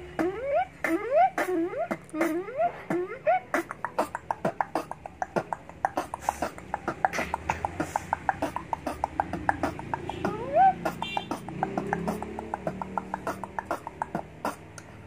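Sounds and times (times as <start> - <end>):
rising vocal sweep: 0.0 - 14.8
boy beatboxing clicking beats: 0.0 - 15.0.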